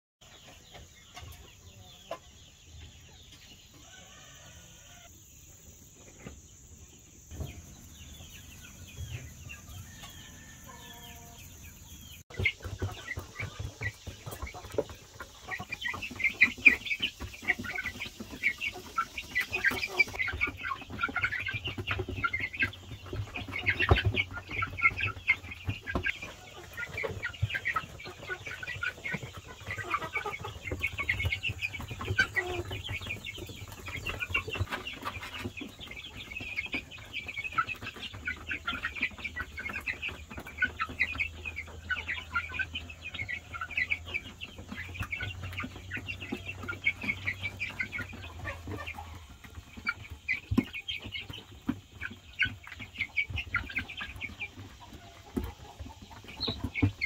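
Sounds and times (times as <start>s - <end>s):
young chickens chirping: 0.2s - 57.0s.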